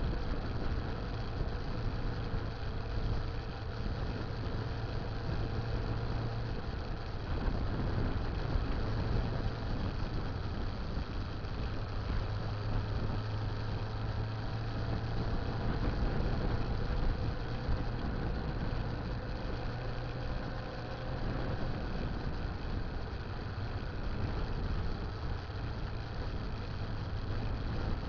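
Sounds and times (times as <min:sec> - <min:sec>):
motorcycle engine running: 0:00.0 - 0:28.0
road and wind noise: 0:00.0 - 0:28.0.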